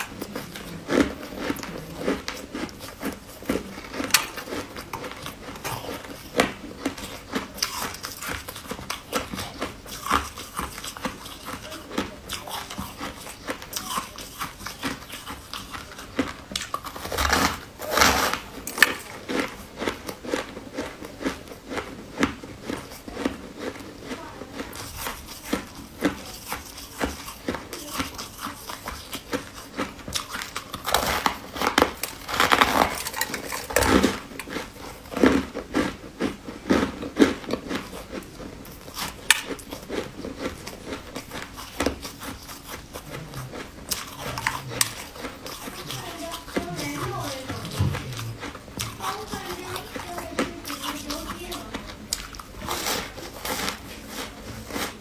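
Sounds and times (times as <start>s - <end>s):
crunchy biting and chewing: 0.0s - 55.0s.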